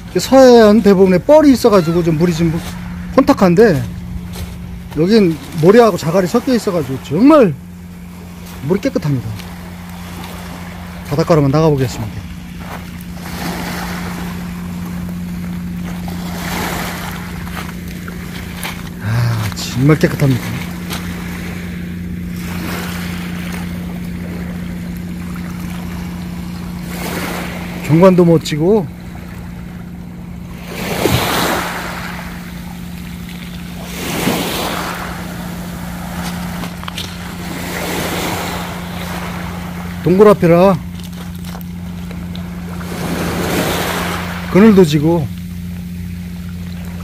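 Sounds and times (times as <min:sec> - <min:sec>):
waves washing over pebbles: 0:00.0 - 0:28.9, 0:30.6 - 0:47.0
steady low hum: 0:00.0 - 0:47.0.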